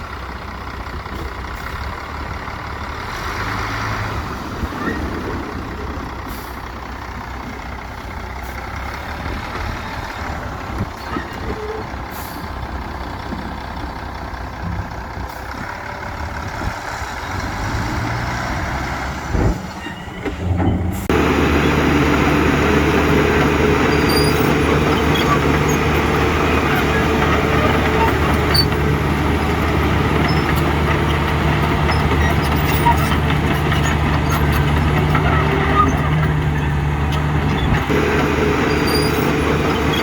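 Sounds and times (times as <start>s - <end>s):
heavy diesel engines running: 0.0s - 40.0s.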